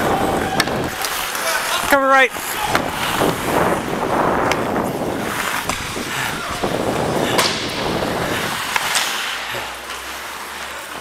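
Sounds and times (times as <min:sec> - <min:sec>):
skates scraping on ice: 0:00.0 - 0:11.0.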